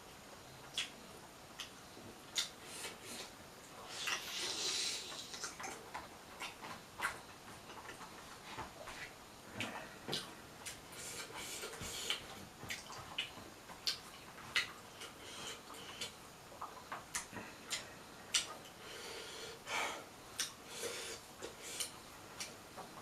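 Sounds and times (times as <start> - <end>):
person chewing with wet clicks: 0.6 - 18.9, 20.4 - 22.6.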